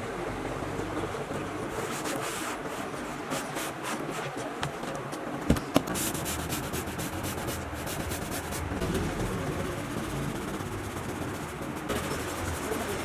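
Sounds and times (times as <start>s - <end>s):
steady background noise: 0.0s - 13.0s
rubbing and rustling of upholstery: 1.7s - 13.0s.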